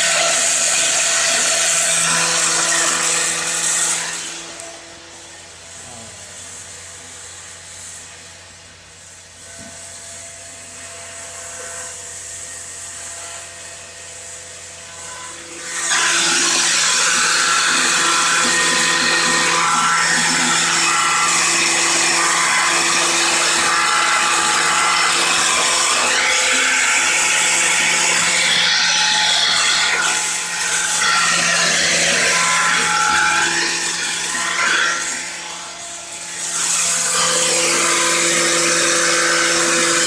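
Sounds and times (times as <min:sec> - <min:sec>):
harsh cutting noise with whine: 0:00.0 - 0:40.0
power tool motor hum: 0:00.0 - 0:40.0.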